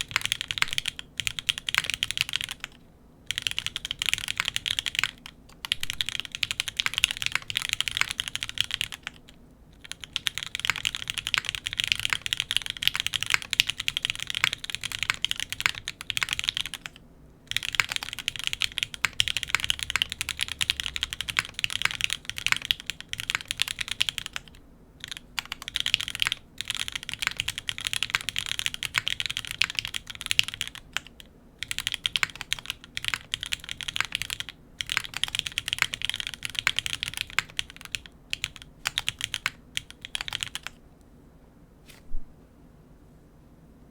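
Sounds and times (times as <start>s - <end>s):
mechanical keyboard typing: 0.0s - 40.8s.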